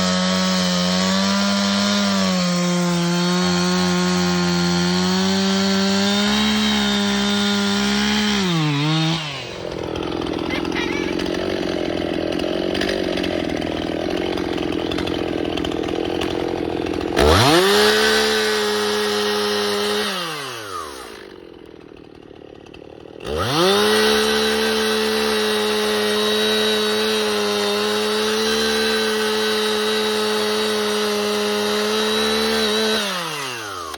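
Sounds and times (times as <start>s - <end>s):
chainsaw revving: 0.0s - 33.9s.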